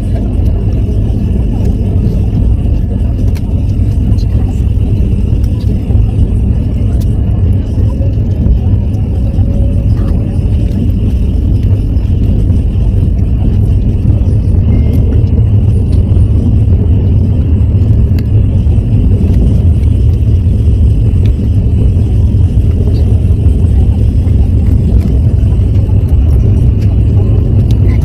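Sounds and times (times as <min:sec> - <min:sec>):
train rumble from inside: 0:00.0 - 0:28.0.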